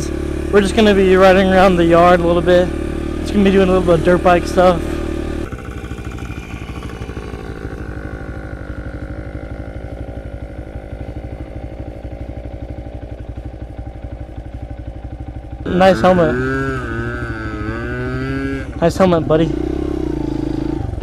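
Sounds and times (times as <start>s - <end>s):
pit bike engine idling: 0.0s - 21.0s.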